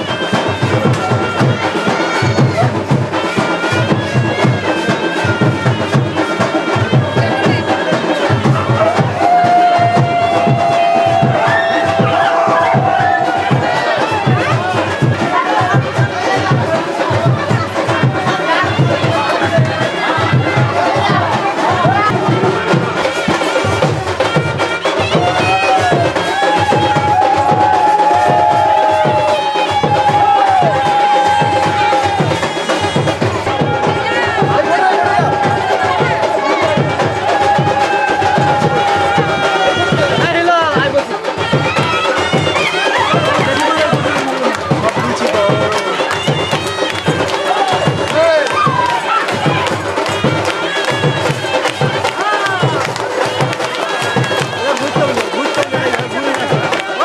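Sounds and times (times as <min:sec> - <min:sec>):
steady drum beat: 0:00.0 - 0:57.0
wind instrument melody: 0:00.0 - 0:57.0.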